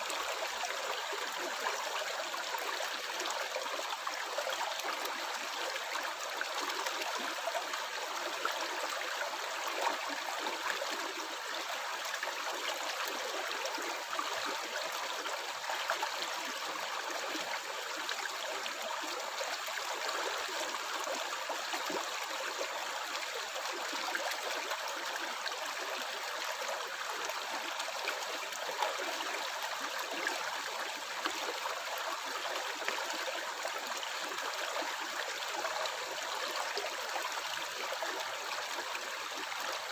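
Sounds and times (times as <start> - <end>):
stream running and gurgling: 0.0 - 39.9.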